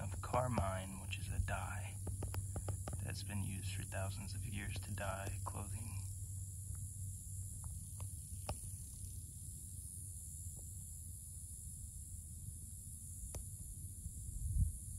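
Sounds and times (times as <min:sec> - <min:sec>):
high-pitched insect drone: 0:00.0 - 0:14.9.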